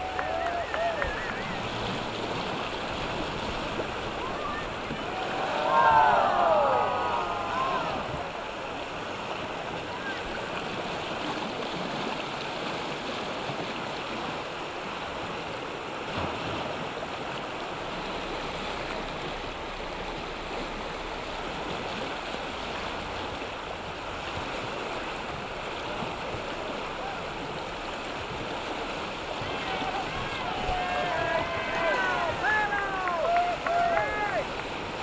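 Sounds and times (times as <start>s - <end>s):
river rapids rushing: 0.0s - 35.0s.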